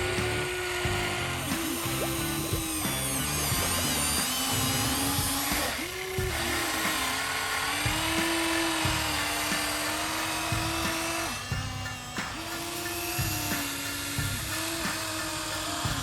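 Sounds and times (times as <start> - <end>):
electric gear motors whining: 0.0 - 16.0.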